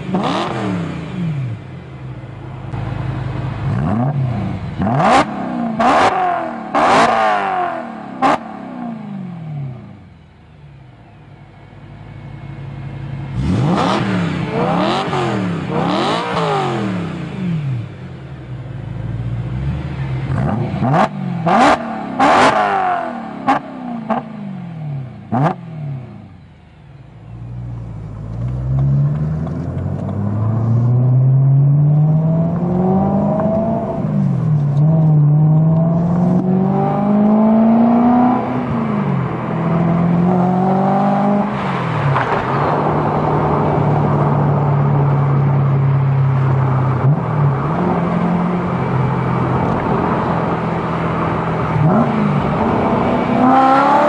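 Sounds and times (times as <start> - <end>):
car engine revving and shifting: 0.0 - 1.7, 2.6 - 10.0, 13.0 - 18.0, 18.9 - 26.3, 27.6 - 54.0.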